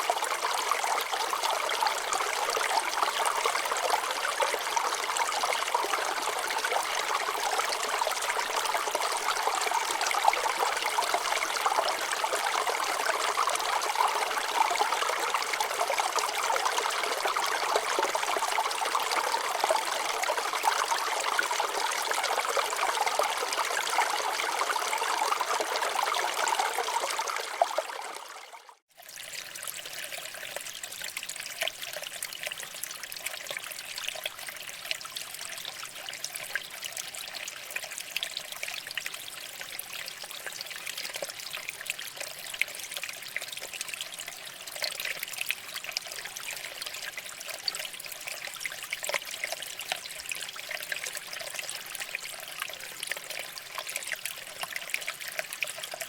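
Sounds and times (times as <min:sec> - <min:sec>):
water trickle with splashes: 0:00.0 - 0:56.0.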